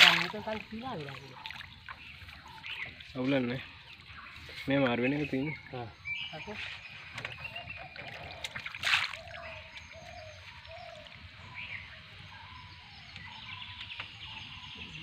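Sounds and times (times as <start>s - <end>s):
bird calling: 0.0s - 15.0s
outdoor background noise: 0.0s - 15.0s.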